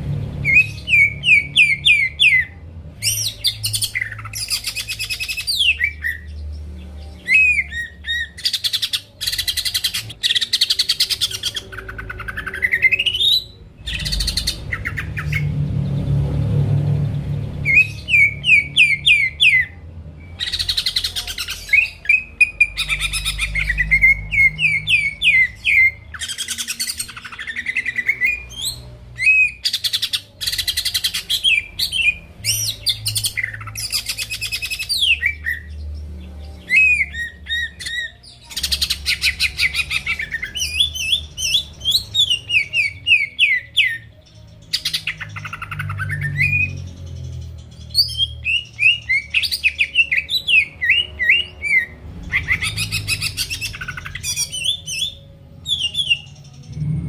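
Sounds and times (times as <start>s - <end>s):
bird singing with whistles: 0.4s - 15.5s, 17.6s - 35.7s, 36.5s - 57.0s.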